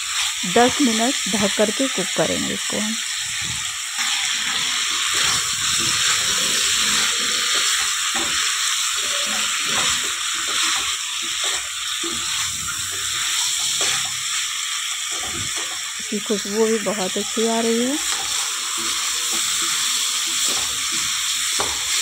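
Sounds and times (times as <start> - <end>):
chicken sizzling in hot fat: 0.0 - 22.0.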